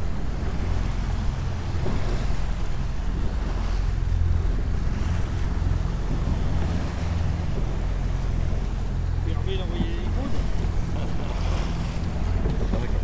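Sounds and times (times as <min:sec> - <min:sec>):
motorboat engine humming: 0:00.0 - 0:13.0
water rushing past hull: 0:00.0 - 0:13.0
wind buffeting microphone: 0:00.0 - 0:13.0.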